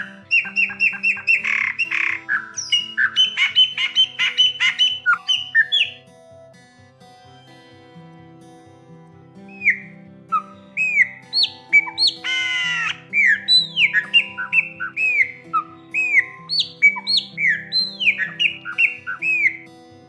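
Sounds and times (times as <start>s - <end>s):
bird singing whistled notes: 0.0s - 6.0s, 9.5s - 19.6s
acoustic guitar music: 0.0s - 20.0s.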